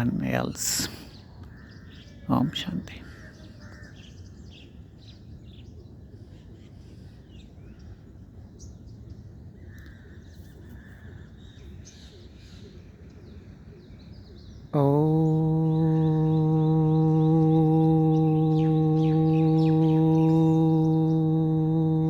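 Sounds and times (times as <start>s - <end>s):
bird chirps: 1.1s - 22.0s.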